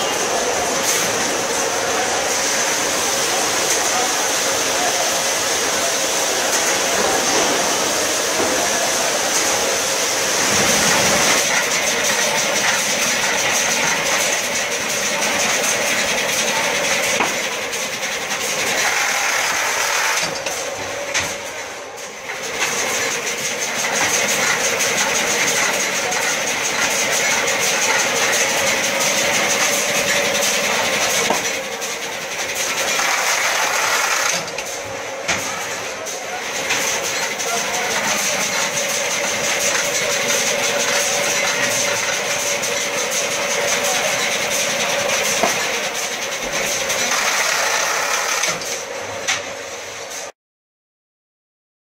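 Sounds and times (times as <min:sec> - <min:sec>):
packing machine clatter and hiss: 0:00.0 - 0:50.3.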